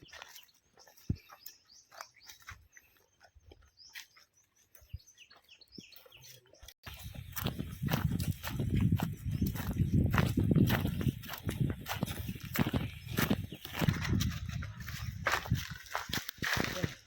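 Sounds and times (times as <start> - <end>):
birds chirping: 0.0 - 17.0
footsteps: 0.0 - 17.0.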